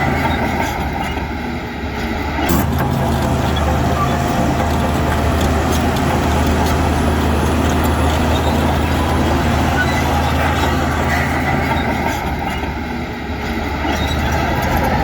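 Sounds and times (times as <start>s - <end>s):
heavy diesel engine running: 2.5s - 15.0s.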